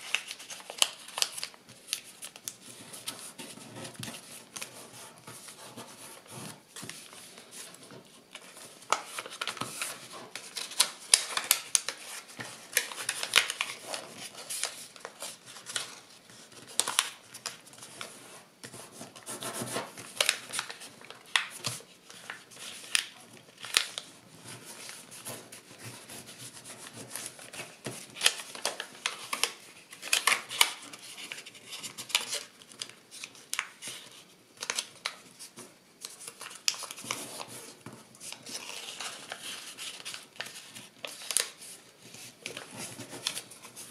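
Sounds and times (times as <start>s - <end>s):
paper crinkling and rustling: 0.0s - 43.9s.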